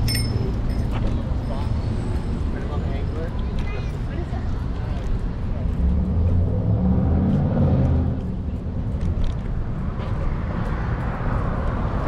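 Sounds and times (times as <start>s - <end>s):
low vehicle rumble: 0.0s - 12.0s
street noise: 0.0s - 12.0s.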